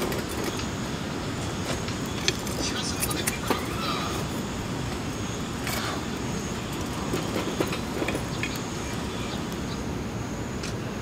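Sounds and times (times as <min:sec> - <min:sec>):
fire rushing rumble: 0:00.0 - 0:10.6
fire crackling: 0:00.0 - 0:11.0.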